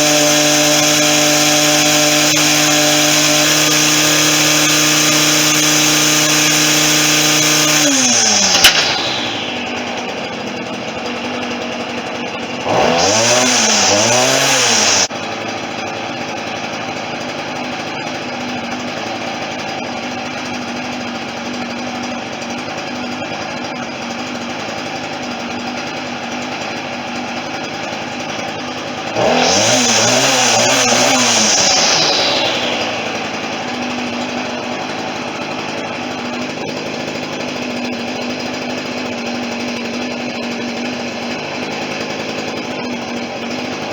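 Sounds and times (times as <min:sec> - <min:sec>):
string trimmer idling and revving: 0:00.0 - 0:43.9.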